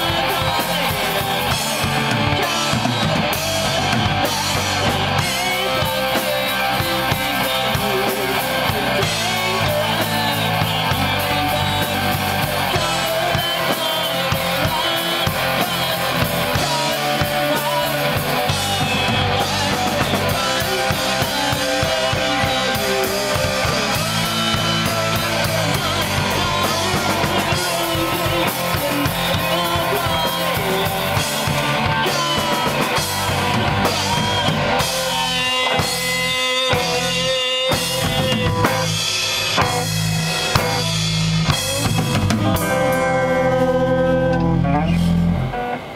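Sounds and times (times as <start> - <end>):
rock music: 0.0 - 45.9.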